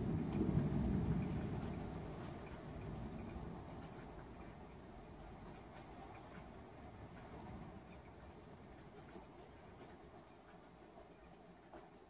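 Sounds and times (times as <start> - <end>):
faint rain hiss: 0.0 - 12.0.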